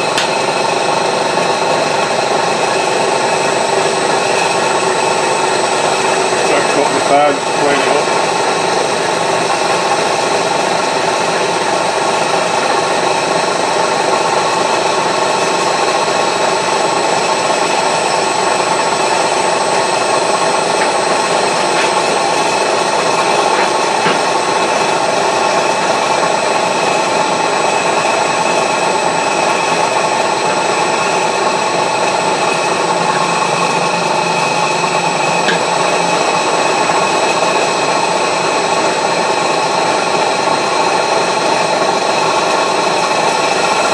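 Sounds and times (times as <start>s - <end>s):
milling machine cutting steel: 0.0s - 43.9s.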